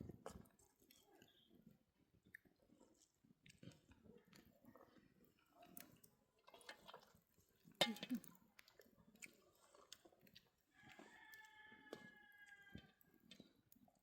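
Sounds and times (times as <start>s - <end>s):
quiet chewing with clicks: 0.0s - 14.0s.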